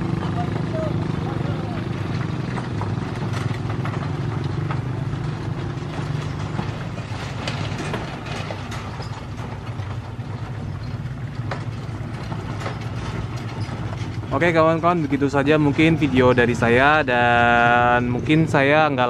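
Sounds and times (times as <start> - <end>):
small vehicle engines running: 0.0 - 19.0.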